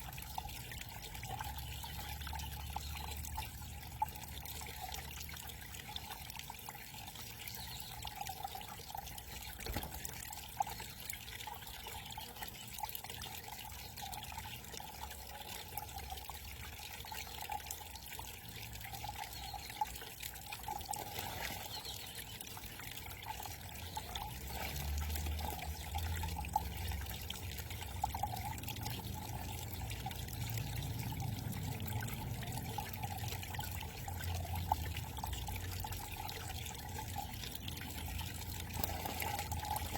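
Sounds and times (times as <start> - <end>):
water cascade trickling and splashing: 0.0 - 39.9.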